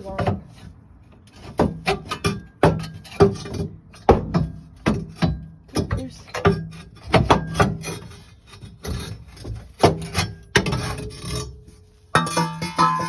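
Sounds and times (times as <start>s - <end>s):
metal pipes scraping and knocking: 0.0s - 13.0s.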